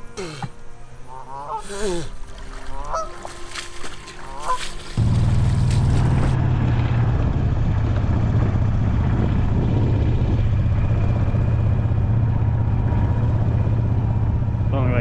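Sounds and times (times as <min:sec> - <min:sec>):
golf cart engine drone: 0:00.0 - 0:15.0.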